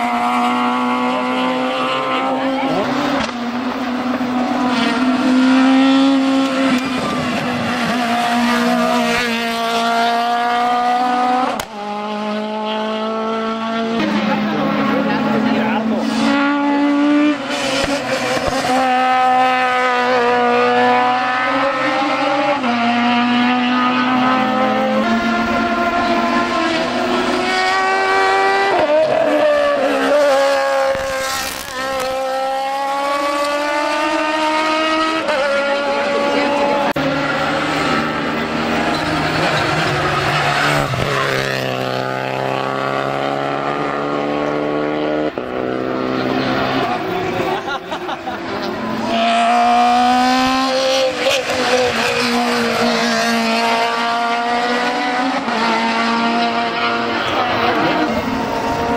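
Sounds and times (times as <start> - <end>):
race car engine passing: 0.0 - 58.9.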